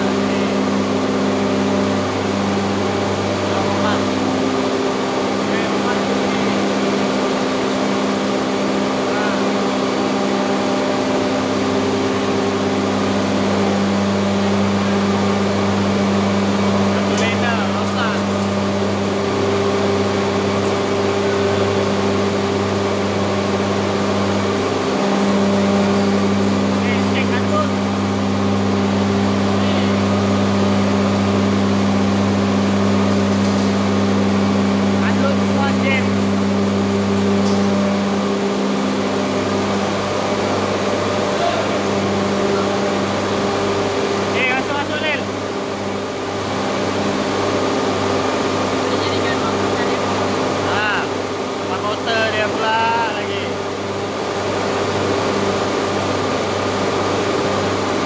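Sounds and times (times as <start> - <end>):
engine room machinery humming: 0.0 - 58.0.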